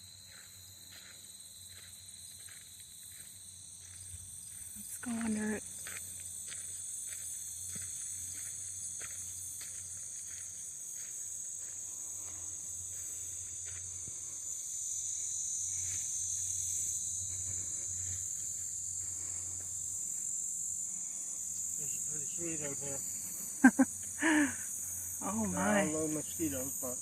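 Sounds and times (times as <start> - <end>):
crickets and insects chirping: 0.0 - 27.0.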